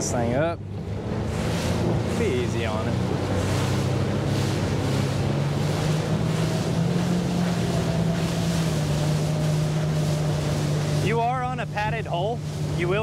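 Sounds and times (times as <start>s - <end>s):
outboard motor droning: 0.0s - 13.0s
water rushing along hull: 0.0s - 13.0s
wind buffeting microphone: 0.0s - 13.0s.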